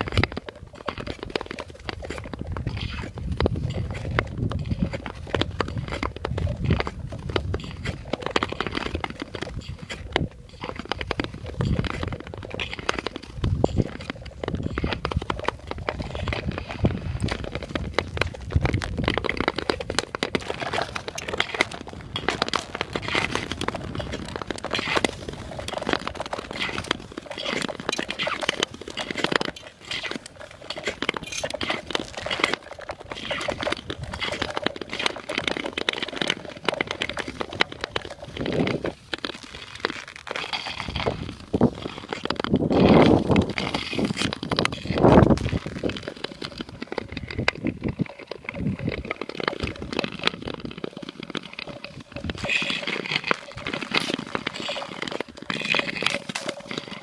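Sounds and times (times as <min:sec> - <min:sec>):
ice skate blades scraping ice: 0:00.0 - 0:57.0.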